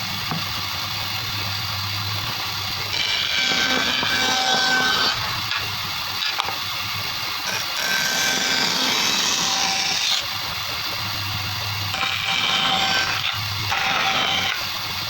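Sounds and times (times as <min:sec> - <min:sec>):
woodworking power tool whining: 0:00.0 - 0:15.0.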